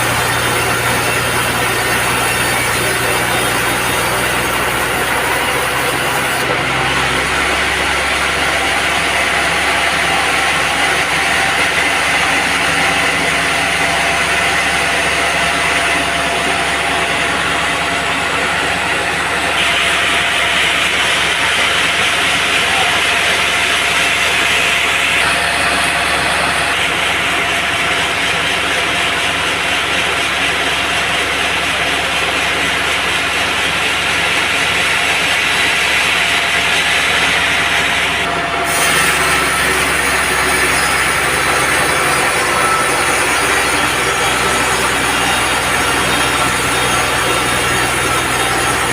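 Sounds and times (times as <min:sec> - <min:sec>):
band saw sawing log: 0:00.0 - 0:48.9.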